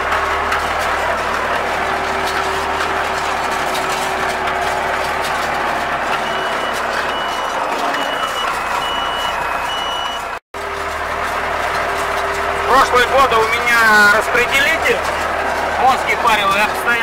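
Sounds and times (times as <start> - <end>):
tractor and baler running: 0.0 - 17.0.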